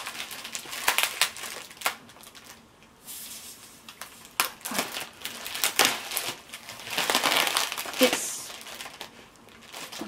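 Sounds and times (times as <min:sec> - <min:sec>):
plastic packaging crinkling: 0:00.0 - 0:10.0
soft plastic rustle: 0:00.0 - 0:10.0.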